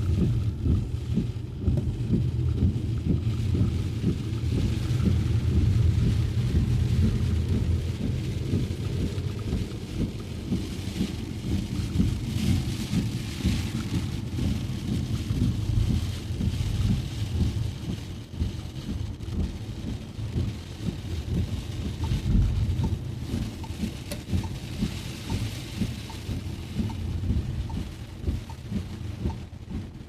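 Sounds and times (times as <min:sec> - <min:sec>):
car road rumble: 0:00.0 - 0:30.0
rain and tyre spray hiss: 0:00.0 - 0:30.0.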